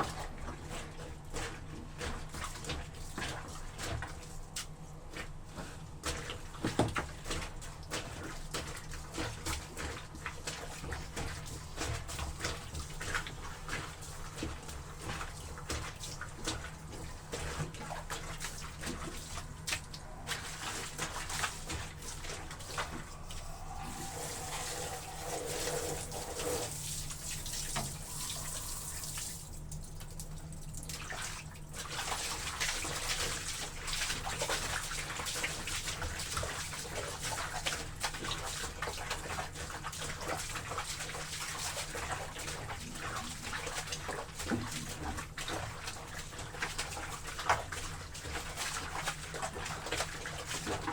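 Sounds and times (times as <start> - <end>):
water sloshing and splashing: 0.0 - 50.9.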